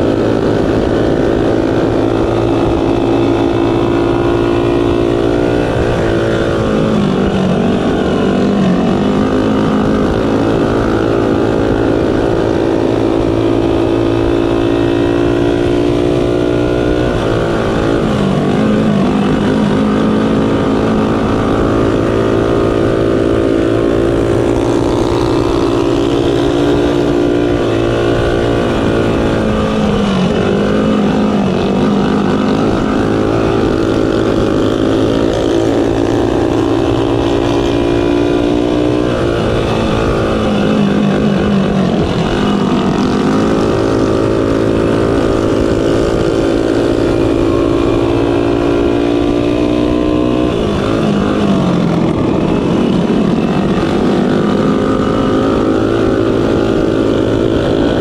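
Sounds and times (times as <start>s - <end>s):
mini bike engine revving: 0.0s - 58.0s.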